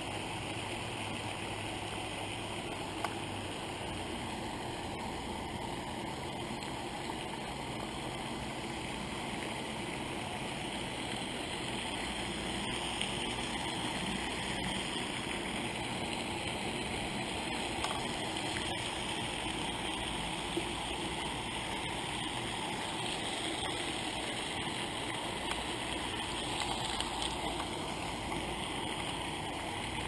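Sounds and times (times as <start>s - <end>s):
fountain water spraying: 0.0s - 30.0s.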